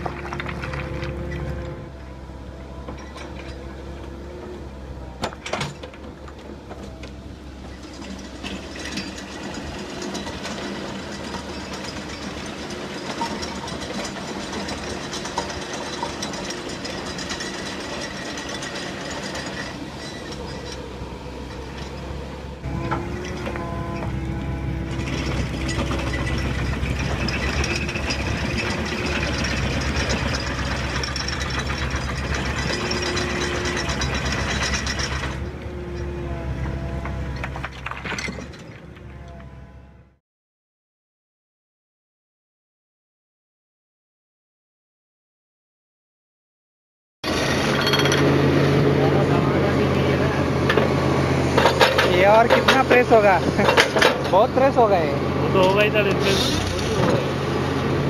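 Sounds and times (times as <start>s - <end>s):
excavator diesel engine: 0.0s - 40.2s, 47.2s - 58.0s.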